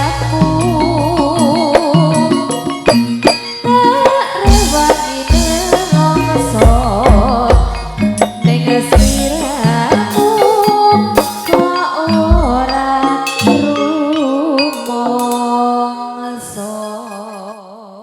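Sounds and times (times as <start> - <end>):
drums: 0.0 - 16.0
person singing wavering melody: 0.0 - 18.0.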